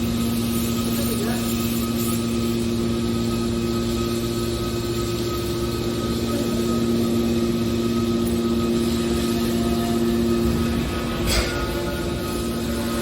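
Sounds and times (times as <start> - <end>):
electric motor and pump humming: 0.0 - 13.0.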